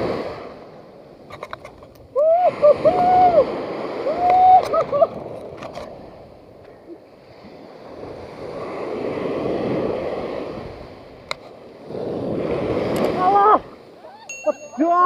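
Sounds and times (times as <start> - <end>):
small waves breaking on shore: 0.0 - 15.0.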